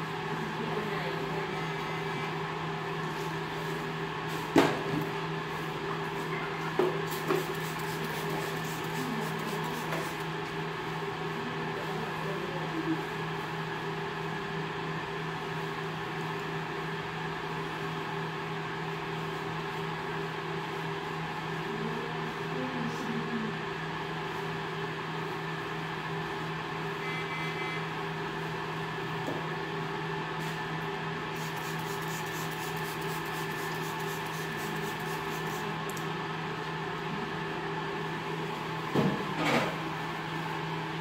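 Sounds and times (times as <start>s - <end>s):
steady machine hum: 0.0s - 41.0s.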